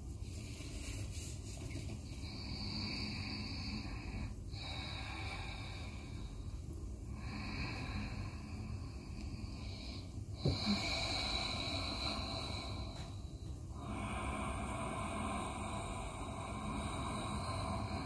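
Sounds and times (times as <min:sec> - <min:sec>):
person breathing slowly: 0:00.0 - 0:18.0.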